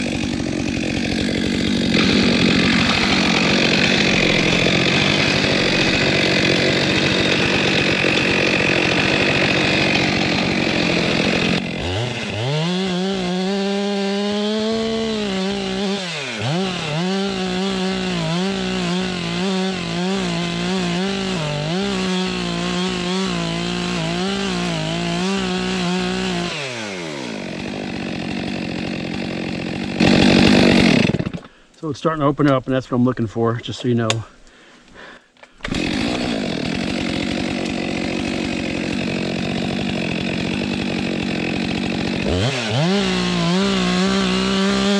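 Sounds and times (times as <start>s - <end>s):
chainsaw cutting log: 0.0s - 31.6s, 35.5s - 44.9s.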